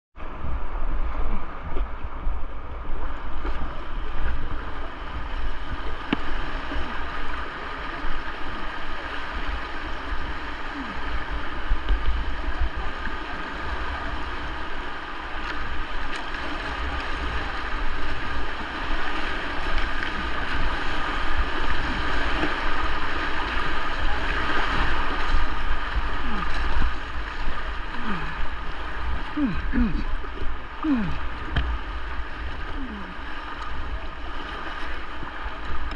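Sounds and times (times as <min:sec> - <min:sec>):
fast river water rushing: 0:00.2 - 0:35.9.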